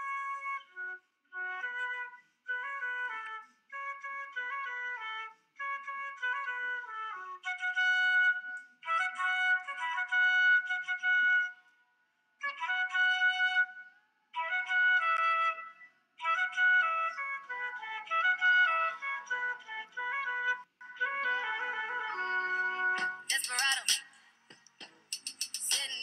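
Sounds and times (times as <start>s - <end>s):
solo flute playing: 0.0s - 11.8s, 12.4s - 23.4s.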